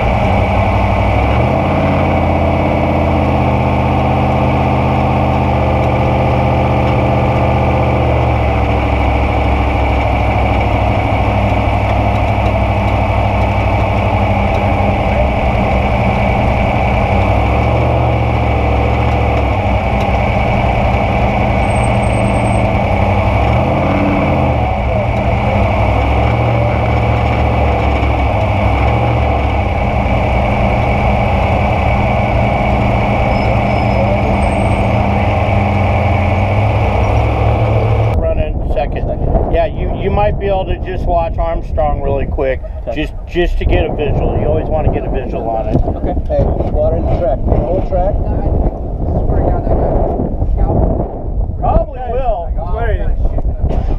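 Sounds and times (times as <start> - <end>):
truck engine idling: 0.0 - 39.3, 40.1 - 53.9.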